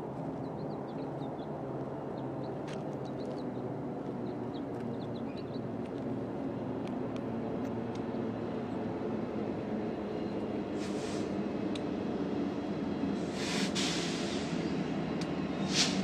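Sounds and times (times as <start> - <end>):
diesel locomotive engine hum: 0.0 - 16.0.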